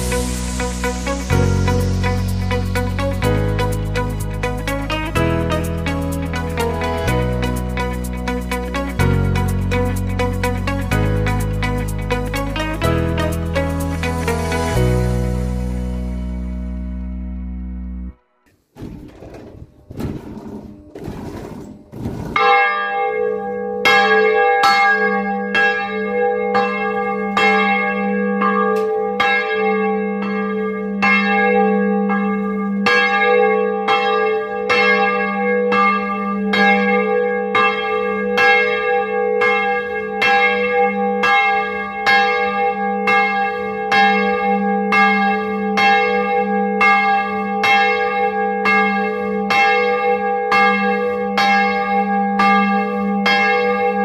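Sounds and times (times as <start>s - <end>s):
church bell ringing: 0.0s - 17.1s, 22.4s - 54.0s.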